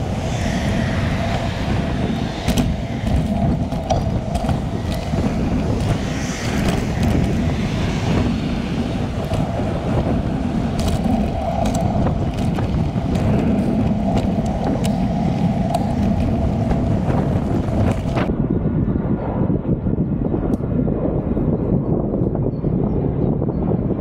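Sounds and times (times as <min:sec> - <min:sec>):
bicycle road rumble: 0:00.0 - 0:24.0
wind buffeting microphone: 0:00.0 - 0:24.0.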